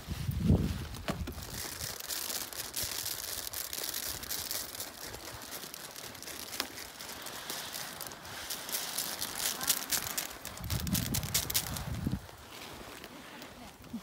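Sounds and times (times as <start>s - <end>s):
light crackles: 0.2s - 14.0s
faint outdoor rustling hiss: 0.4s - 14.0s.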